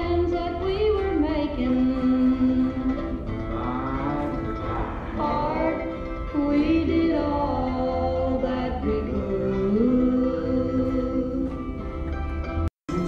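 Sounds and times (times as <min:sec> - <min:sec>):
singing with instrumental music: 0:00.0 - 0:13.0.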